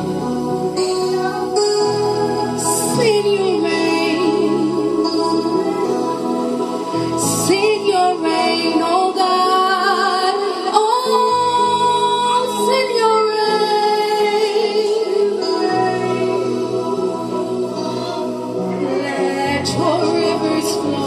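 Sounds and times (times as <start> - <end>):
sustained keyboard chords: 0.0 - 21.0
woman singing wordless melody: 1.0 - 21.0.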